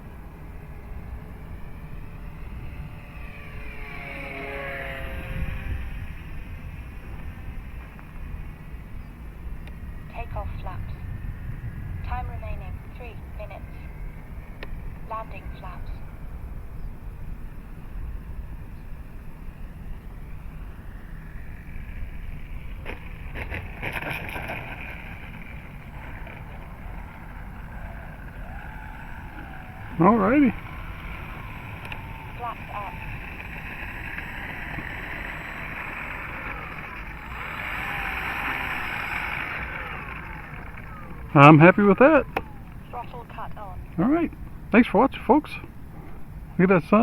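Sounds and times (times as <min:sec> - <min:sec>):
model plane electric motor whine: 0:00.0 - 0:44.8
wind rumbling on microphone: 0:00.0 - 0:44.8.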